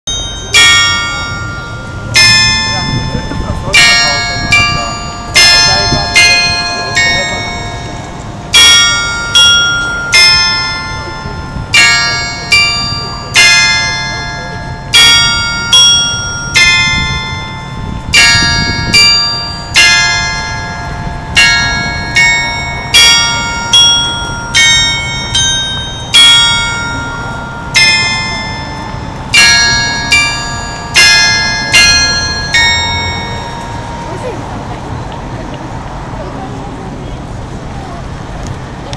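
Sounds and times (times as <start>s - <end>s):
clock tower bell melody: 0.1s - 38.9s.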